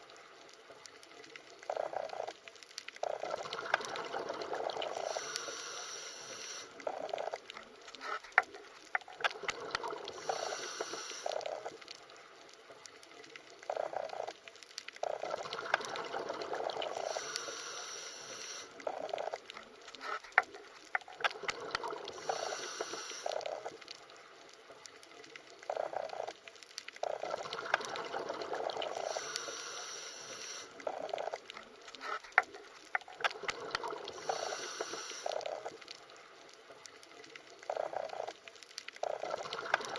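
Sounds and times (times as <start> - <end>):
underwater water sounds: 0.0 - 39.9.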